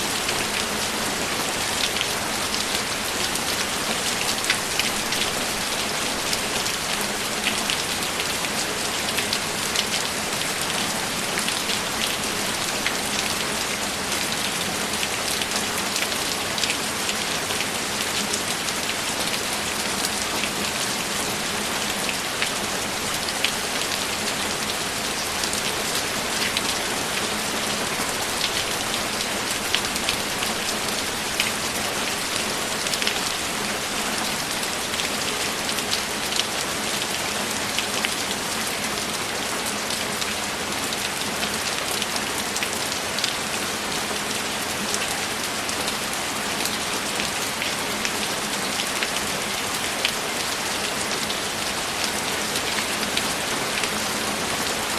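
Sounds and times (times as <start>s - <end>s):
heavy rainfall: 0.0s - 54.9s.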